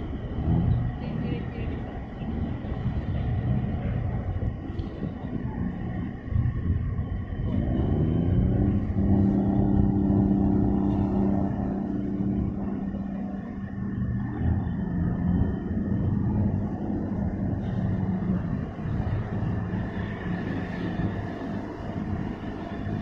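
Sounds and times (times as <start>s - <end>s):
engine humming: 0.0s - 23.0s
low rumble: 0.0s - 23.0s.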